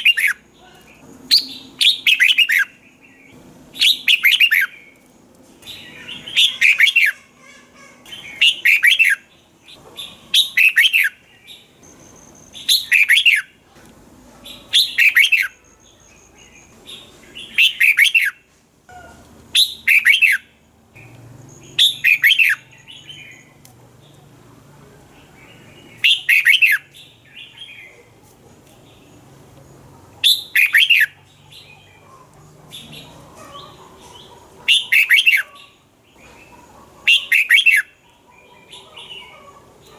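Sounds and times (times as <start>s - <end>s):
bird singing: 0.0s - 13.6s, 14.4s - 24.3s, 25.0s - 28.1s, 28.8s - 39.9s.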